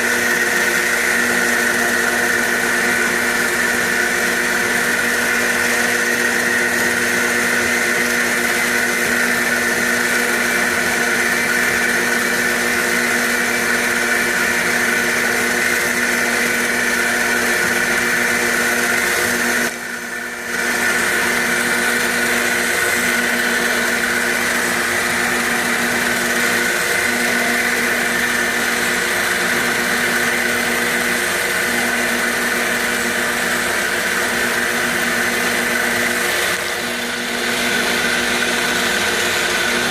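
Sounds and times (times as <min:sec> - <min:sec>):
cnc machine motor whine: 0:00.0 - 0:39.9
machine cutting noise: 0:00.0 - 0:39.9.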